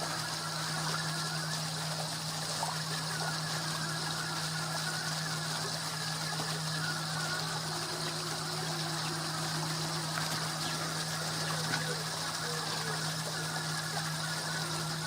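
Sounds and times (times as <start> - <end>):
pond water running: 0.0 - 15.0
pump humming: 0.0 - 15.0.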